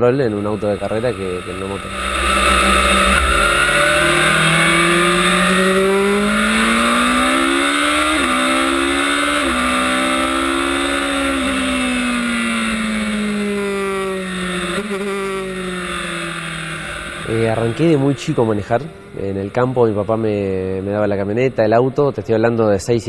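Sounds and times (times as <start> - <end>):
racing car engine at full throttle: 0.0 - 22.5.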